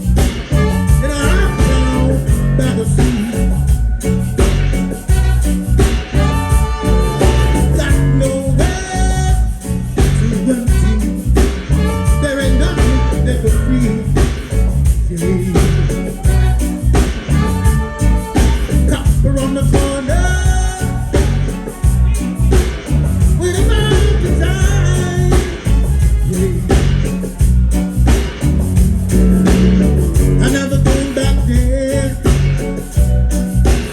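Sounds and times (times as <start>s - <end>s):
bass line: 0.0s - 33.9s
drum beat: 0.0s - 33.9s
reggae band playing: 0.0s - 33.9s
person singing: 0.4s - 27.4s, 29.2s - 33.9s.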